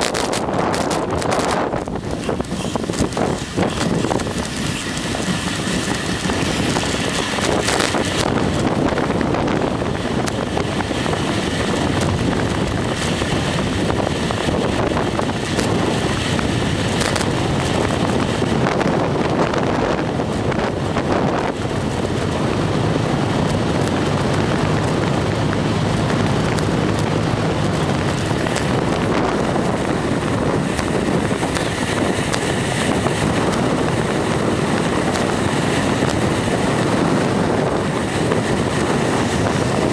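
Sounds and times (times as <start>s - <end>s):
road rumble: 0.0s - 39.9s
wind rushing over microphone: 0.0s - 39.9s.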